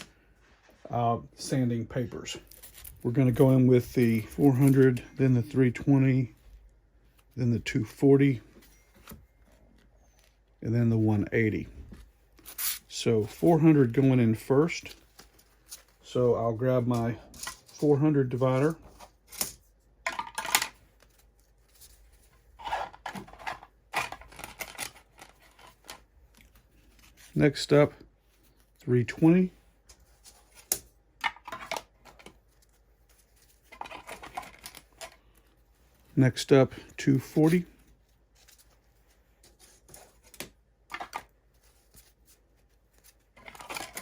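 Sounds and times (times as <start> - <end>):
clicks and rustles of handling: 0.0 - 44.0.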